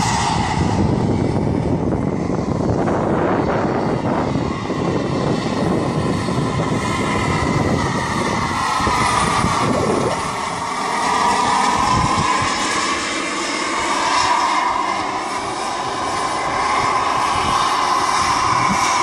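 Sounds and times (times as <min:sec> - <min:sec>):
helicopter engine whining: 0:00.0 - 0:19.0
rough rushing noise: 0:00.0 - 0:19.0.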